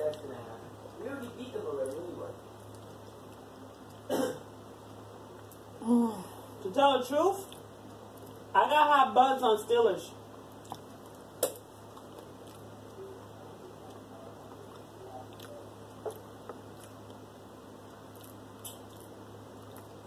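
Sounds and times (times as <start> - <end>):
soft chewing and mouth noises: 0.0 - 6.6, 7.4 - 8.5, 10.2 - 20.0.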